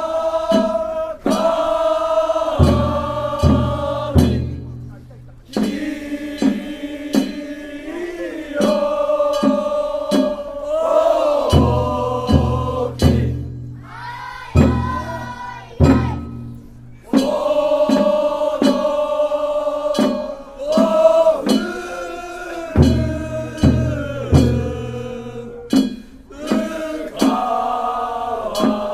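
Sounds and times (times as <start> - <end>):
men singing in unison: 0.0 - 4.7, 5.5 - 16.4, 17.1 - 28.9
sharp percussive strikes: 0.0 - 28.9.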